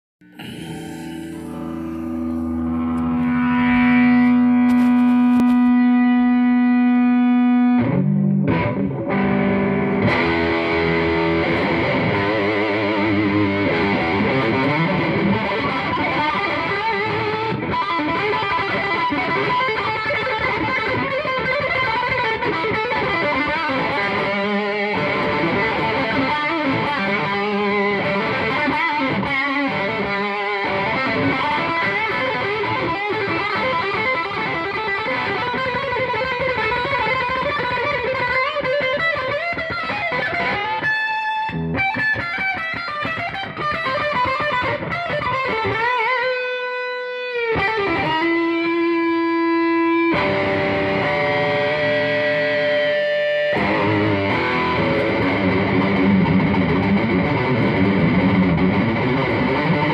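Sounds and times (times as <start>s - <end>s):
distorted electric guitar: 0.2s - 59.9s.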